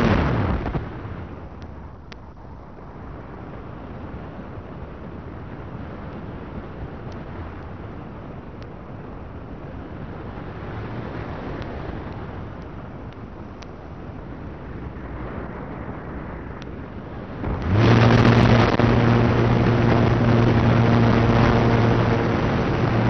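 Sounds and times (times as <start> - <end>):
wind rushing on microphone: 0.0 - 23.0.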